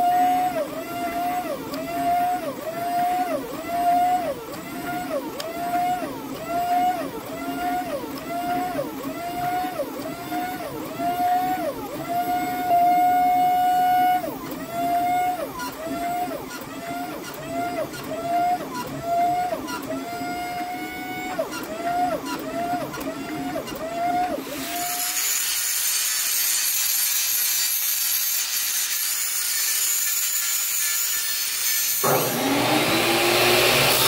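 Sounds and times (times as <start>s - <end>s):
hydraulic press pump humming: 0.0s - 25.4s, 32.0s - 34.0s.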